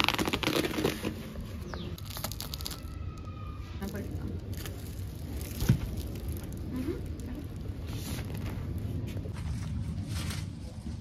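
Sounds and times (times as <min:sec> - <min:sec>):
artificial grass carpet unrolling: 0:00.0 - 0:11.0.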